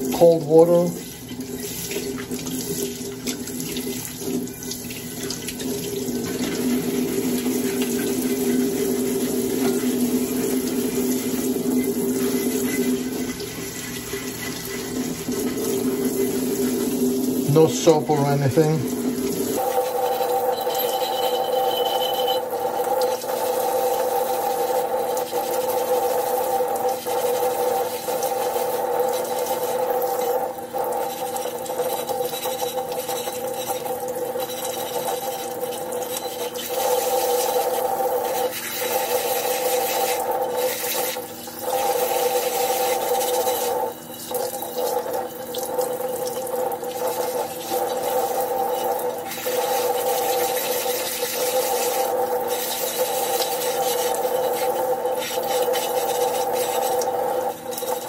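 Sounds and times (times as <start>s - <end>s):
tap water running on clay pot: 0.0s - 58.0s.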